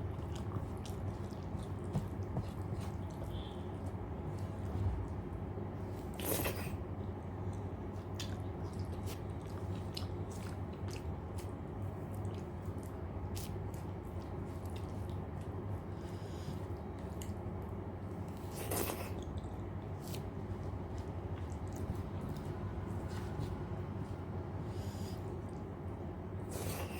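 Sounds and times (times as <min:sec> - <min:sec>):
person chewing food: 0:00.0 - 0:05.2, 0:07.4 - 0:24.1.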